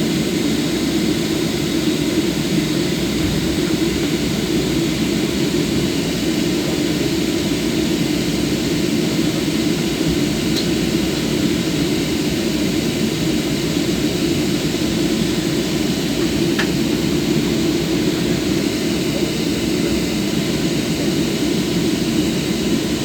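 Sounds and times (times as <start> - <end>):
jet engine cabin rumble: 0.0 - 23.0.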